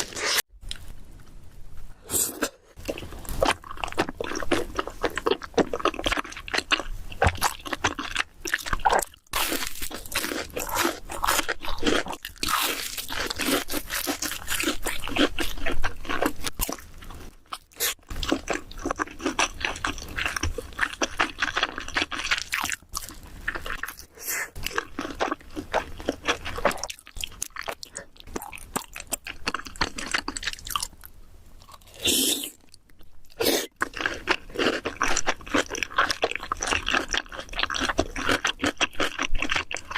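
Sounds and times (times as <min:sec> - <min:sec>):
crunchy chewing of food: 0:02.2 - 0:39.9.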